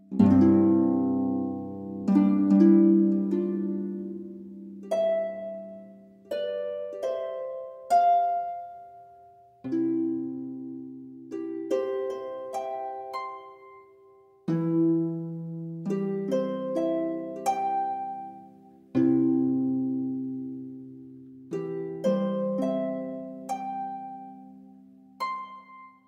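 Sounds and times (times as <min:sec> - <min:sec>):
calm instrumental music: 0:00.0 - 0:26.0.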